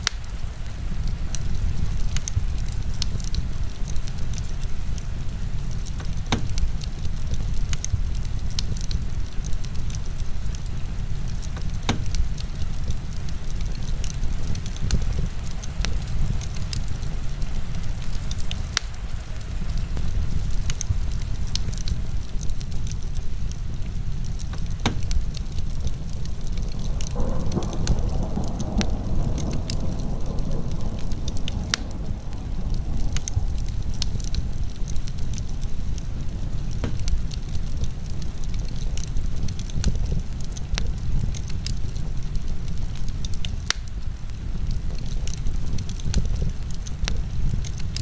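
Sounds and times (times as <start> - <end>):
heavy rain: 0.0 - 48.0
wood fire crackling and popping: 0.0 - 48.0.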